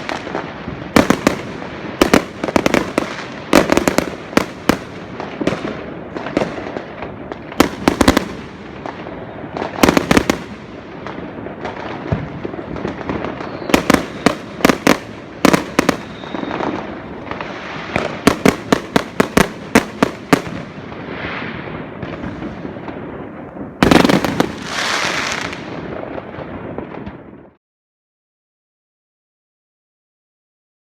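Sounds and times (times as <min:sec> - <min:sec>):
fireworks bangs: 0:00.0 - 0:27.6
fireworks crackling pops: 0:00.0 - 0:27.6.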